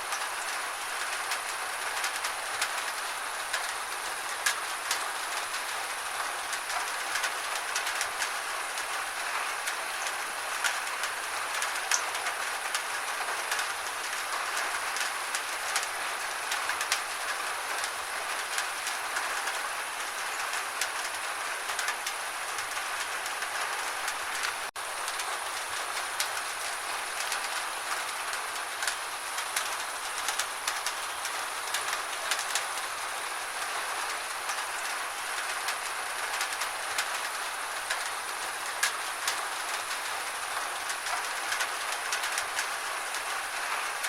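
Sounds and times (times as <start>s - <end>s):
gentle rain falling: 0.0s - 44.0s.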